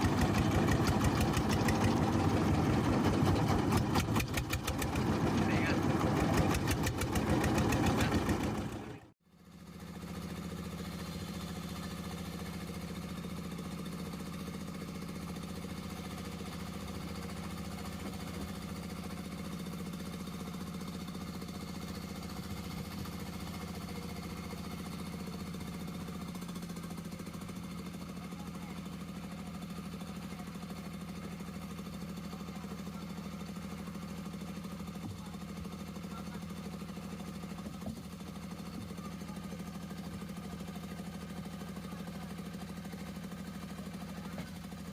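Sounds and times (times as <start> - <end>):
boat diesel engine running: 0.0 - 44.9.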